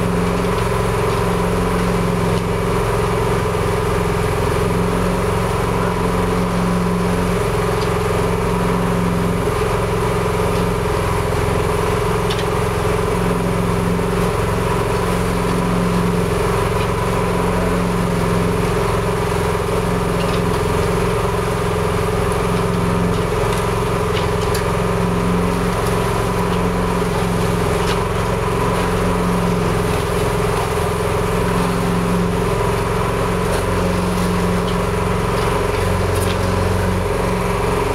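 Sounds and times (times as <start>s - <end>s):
small engine droning: 0.0s - 37.9s.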